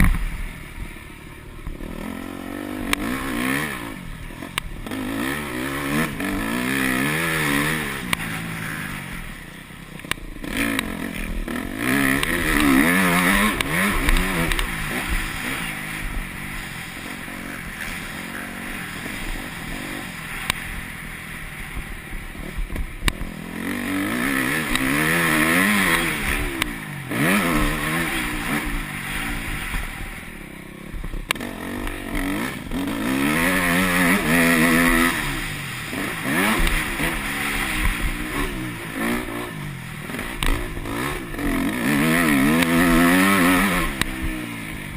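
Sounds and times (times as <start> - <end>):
motocross engine revving: 0.0 - 44.9.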